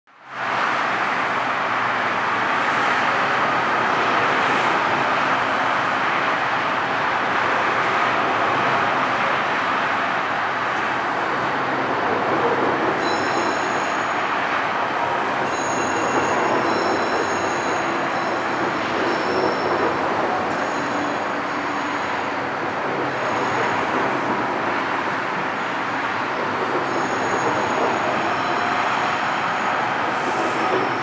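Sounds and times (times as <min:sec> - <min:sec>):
train wheels rumbling on rail: 0:00.5 - 0:31.0.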